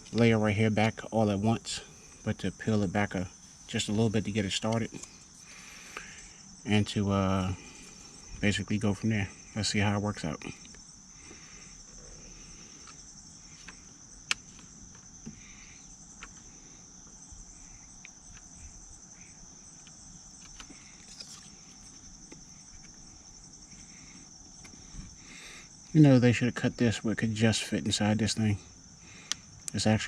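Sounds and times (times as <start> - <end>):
insect chirring: 0.0 - 30.0.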